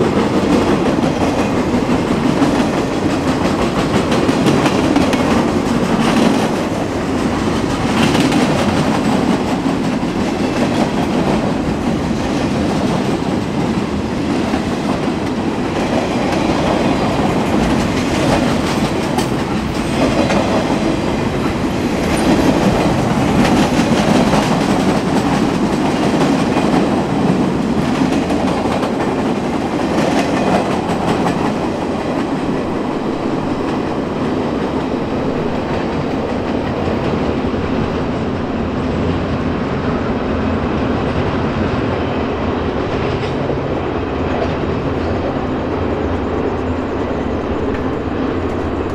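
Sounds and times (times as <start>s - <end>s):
train wheels clicking over track: 0.0s - 39.3s.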